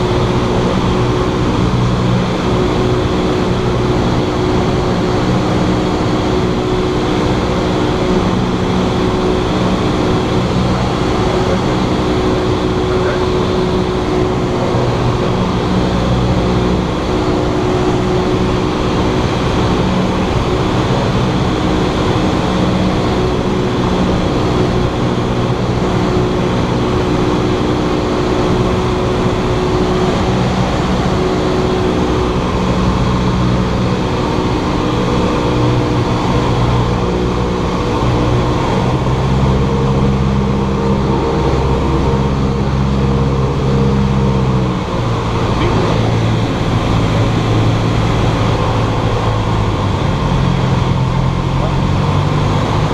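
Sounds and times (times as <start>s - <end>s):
propeller plane engine drone: 0.0s - 52.9s.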